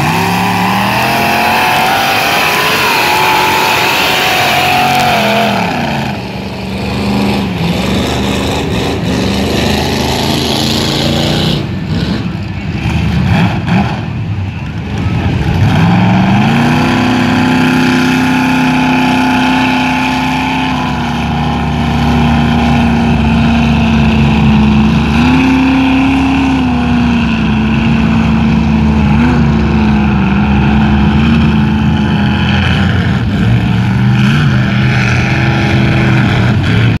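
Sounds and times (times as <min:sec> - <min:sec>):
truck engine at high revs: 0:00.0 - 0:37.0.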